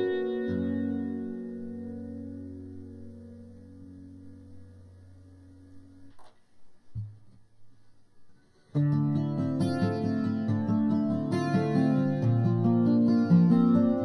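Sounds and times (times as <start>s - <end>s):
acoustic guitar chord ringing: 0.0s - 6.2s, 8.5s - 14.0s.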